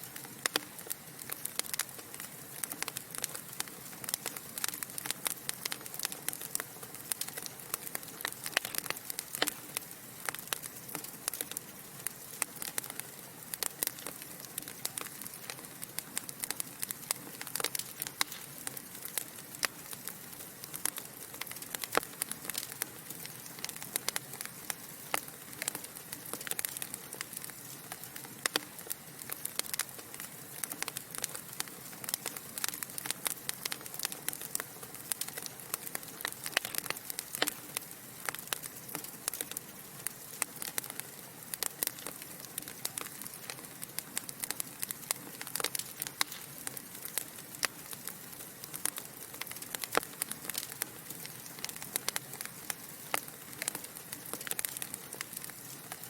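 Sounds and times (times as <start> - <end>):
logs crackling in fireplace: 0.0 - 56.0.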